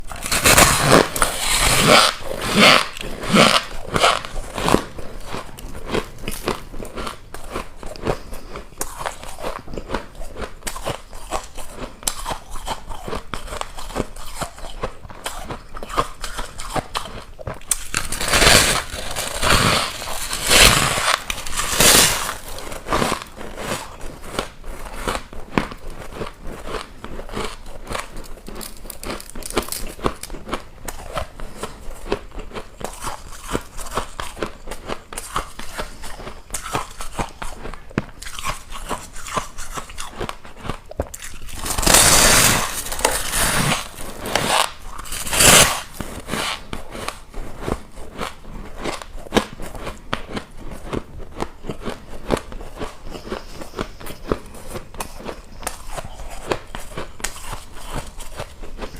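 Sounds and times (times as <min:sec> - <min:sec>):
person chewing ice: 0:00.0 - 0:58.9.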